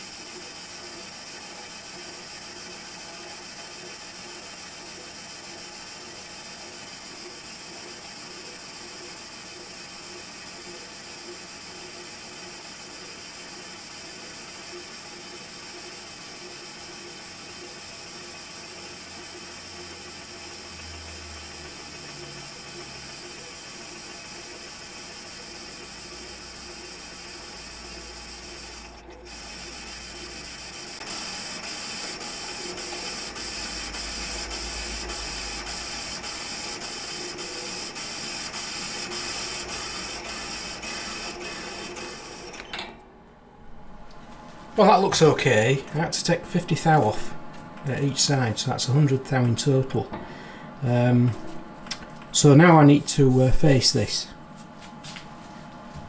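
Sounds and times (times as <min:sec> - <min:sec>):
metal lathe running: 0:00.0 - 0:43.0, 0:44.7 - 0:51.6, 0:52.2 - 0:54.3.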